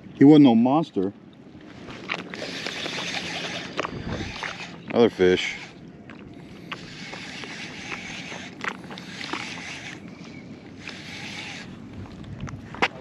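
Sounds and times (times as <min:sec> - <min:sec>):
water lapping and sloshing: 0:00.0 - 0:13.0.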